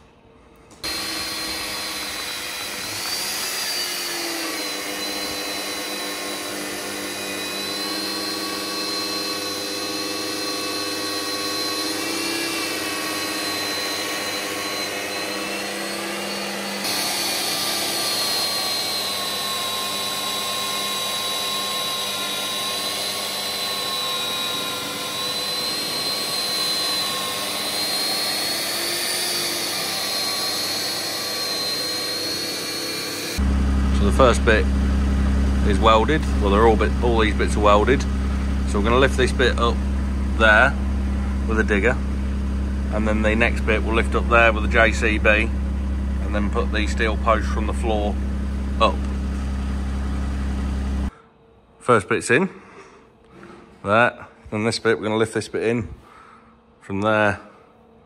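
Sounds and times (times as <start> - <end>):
electric drill motor whining: 0.7 - 51.2.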